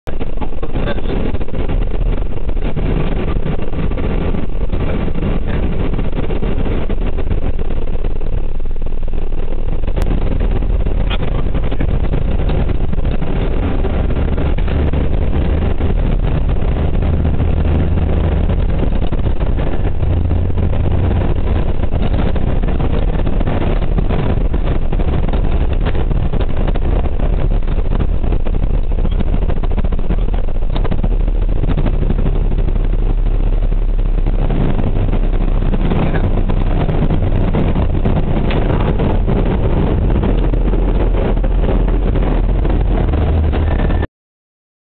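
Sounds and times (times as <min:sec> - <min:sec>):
take-off roll rumble: 0:00.0 - 0:44.1
jet engines at take-off thrust: 0:00.1 - 0:44.1.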